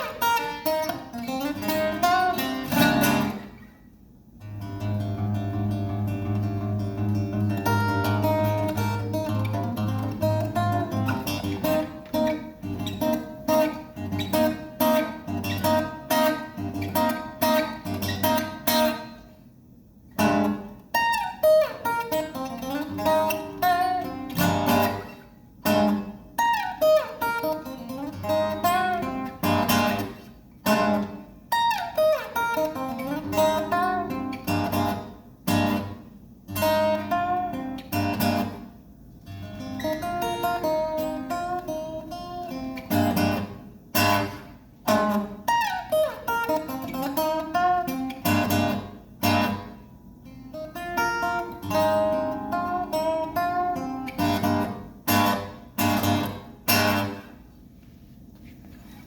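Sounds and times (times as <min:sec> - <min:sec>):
acoustic guitar strumming and picking: 0:00.0 - 0:59.0.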